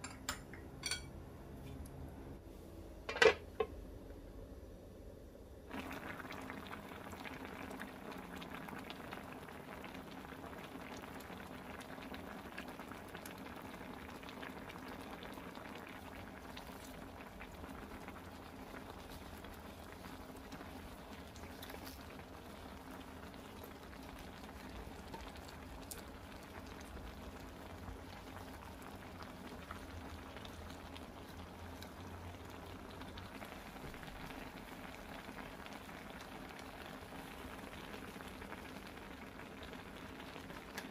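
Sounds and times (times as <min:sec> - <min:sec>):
broth bubbling and popping: 0:05.7 - 0:40.9.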